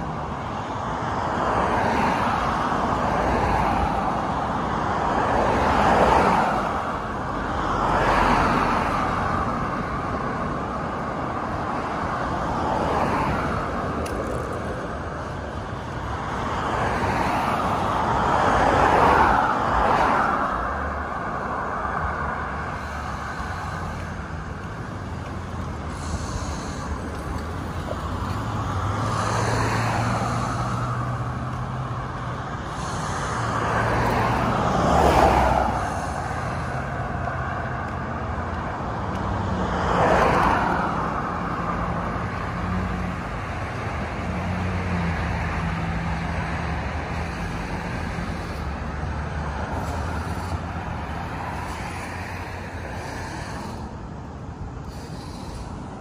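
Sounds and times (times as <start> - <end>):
traffic hum of tyres and engines: 0.0 - 56.0
vehicles passing close: 0.0 - 56.0.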